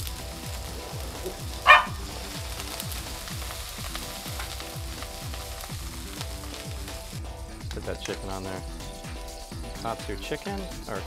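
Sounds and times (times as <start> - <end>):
background music with steady beat: 0.0 - 11.0
water sizzling on hot griddle: 0.0 - 11.0.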